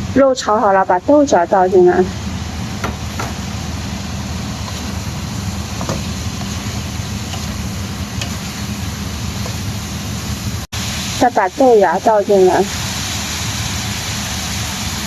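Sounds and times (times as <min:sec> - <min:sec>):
low mechanical hum: 0:00.0 - 0:15.0
green beans frying in a wok: 0:00.1 - 0:15.0.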